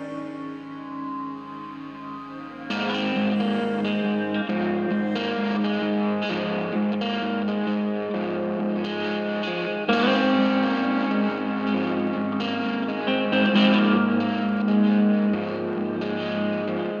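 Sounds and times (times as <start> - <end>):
guitar background music: 0.0 - 17.0.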